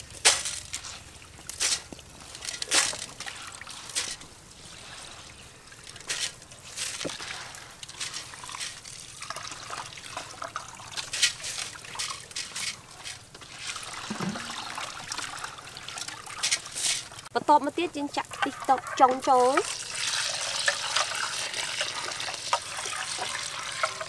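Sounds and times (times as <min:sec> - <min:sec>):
water trickling into pot: 0:00.0 - 0:24.0
hands washing rice in water: 0:00.1 - 0:17.3, 0:18.0 - 0:24.0.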